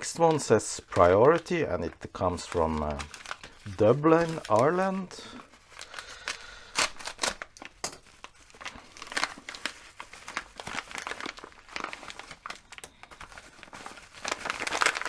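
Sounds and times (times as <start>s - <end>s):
package wrapping crinkling and tearing: 0.0s - 15.0s.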